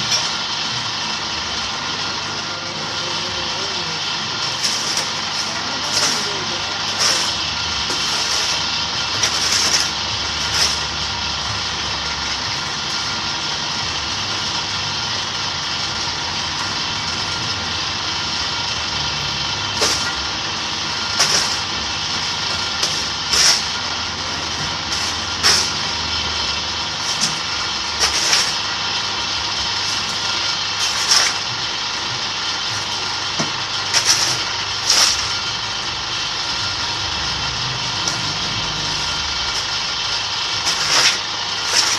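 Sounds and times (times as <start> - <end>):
block press motor whine: 0.0 - 41.9.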